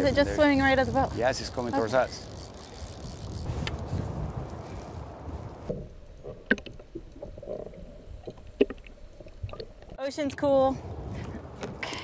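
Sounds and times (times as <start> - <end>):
low rumbling wind: 0.0 - 12.0
water noise: 0.0 - 12.0.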